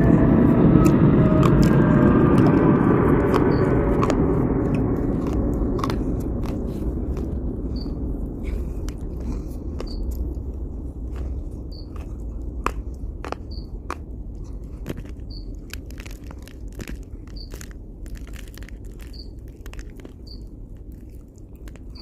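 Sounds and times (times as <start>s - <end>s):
person crunching dry clay: 0.0s - 22.0s
steady low hum: 0.0s - 22.0s.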